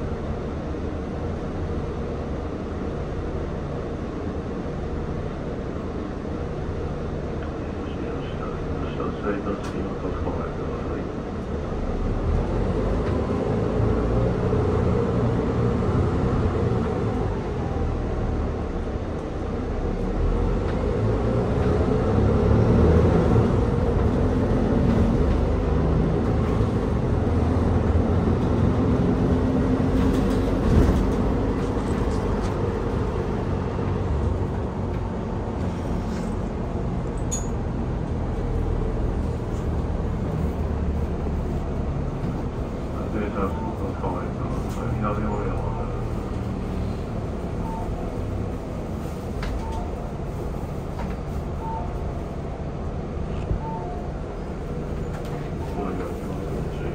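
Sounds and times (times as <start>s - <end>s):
bus engine and road rumble: 0.0s - 56.9s.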